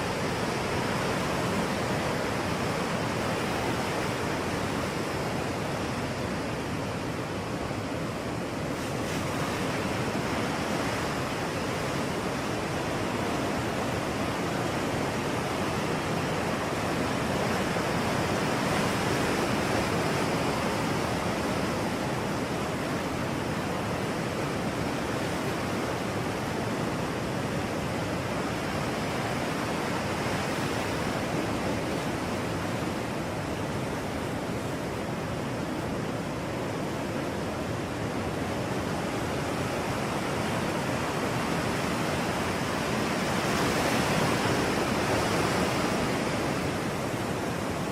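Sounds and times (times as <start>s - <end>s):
ocean waves breaking: 0.0s - 47.9s.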